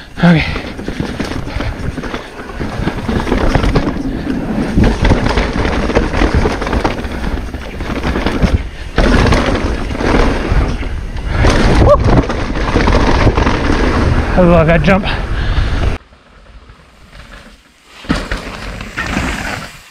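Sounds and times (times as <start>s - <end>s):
bike rattling: 0.0s - 19.9s
bike tyres rolling on dirt: 0.0s - 19.9s.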